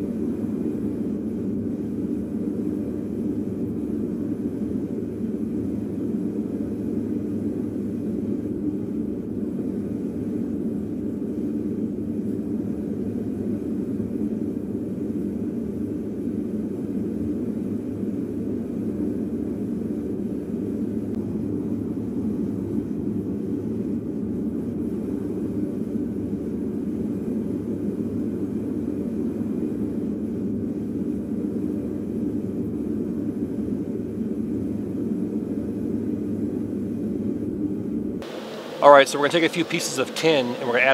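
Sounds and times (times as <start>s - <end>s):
furnace burner rumble: 0.0s - 40.9s.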